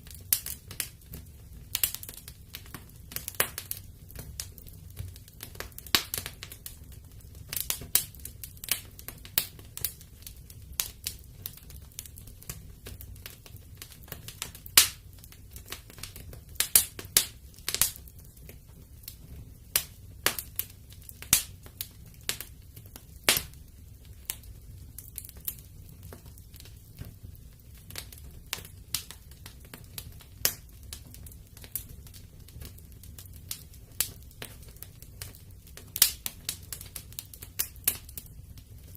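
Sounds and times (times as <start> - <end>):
fire popping: 0.0 - 38.9
low rumble of flames: 0.0 - 38.9
wood fire crackling: 0.0 - 38.9.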